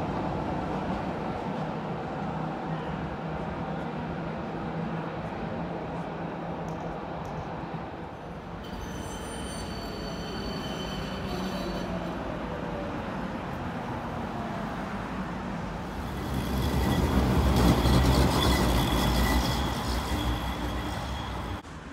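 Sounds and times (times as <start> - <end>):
tram rumbling on rails: 0.0 - 21.9.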